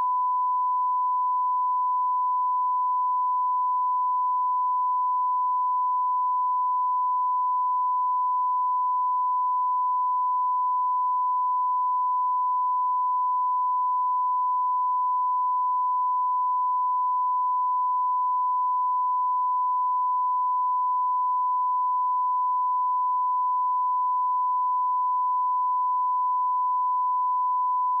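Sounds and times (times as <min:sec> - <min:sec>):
sine-wave test tone: 0:00.0 - 0:28.0.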